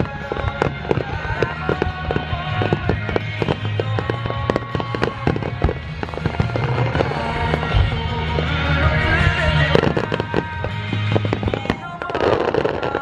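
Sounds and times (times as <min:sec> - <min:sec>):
deep fireworks booms: 0:00.0 - 0:13.0
fireworks crackling and popping: 0:00.0 - 0:13.0
music: 0:00.0 - 0:13.0.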